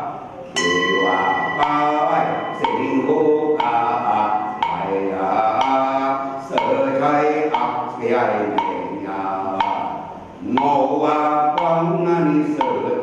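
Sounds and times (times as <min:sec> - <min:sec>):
voices chanting together: 0:00.0 - 0:13.0
wooden block strikes: 0:00.6 - 0:11.8, 0:12.4 - 0:13.0.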